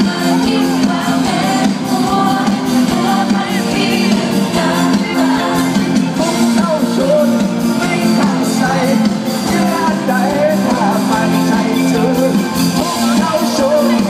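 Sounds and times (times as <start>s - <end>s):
electric guitars: 0.0s - 14.0s
person singing: 0.0s - 14.0s.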